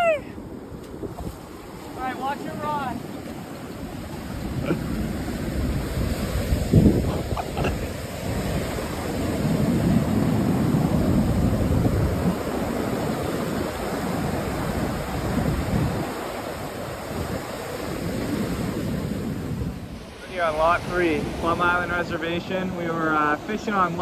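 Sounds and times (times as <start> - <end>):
wind buffeting microphone: 0.0 - 22.2
surf breaking on beach: 0.0 - 24.0.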